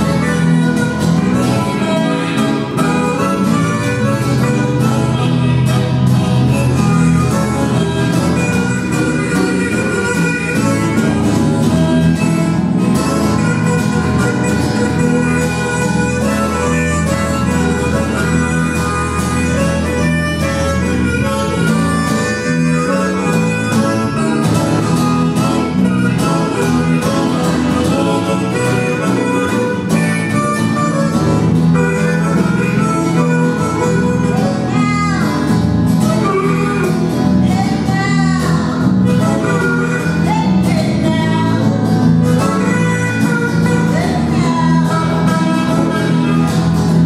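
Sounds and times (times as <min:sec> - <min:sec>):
electric bass guitar: 0:00.0 - 0:47.0
electric guitar: 0:00.0 - 0:47.0
harmonica solo: 0:00.0 - 0:47.0.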